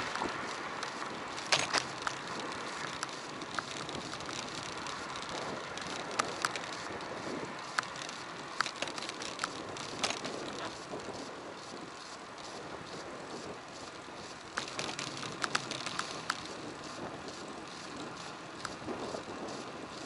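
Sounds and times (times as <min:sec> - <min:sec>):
bike clicks and rattles: 0:00.0 - 0:20.0
tyre and wind hiss: 0:00.0 - 0:20.0.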